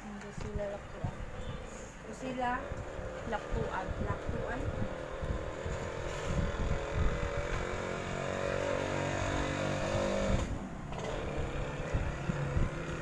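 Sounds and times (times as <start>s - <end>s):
vehicle engine running: 2.2s - 13.0s.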